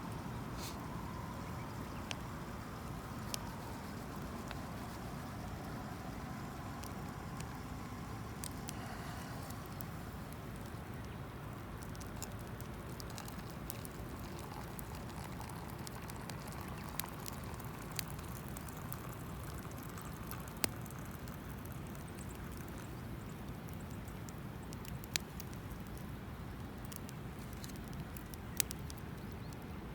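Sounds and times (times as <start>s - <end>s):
campfire crackling and popping: 0.1s - 29.7s.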